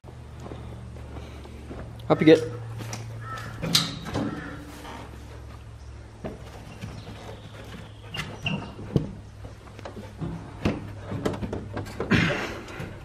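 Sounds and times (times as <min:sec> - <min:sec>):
dog scuffling: 0:00.1 - 0:12.0
dog paws knocking and scraping: 0:00.1 - 0:13.0.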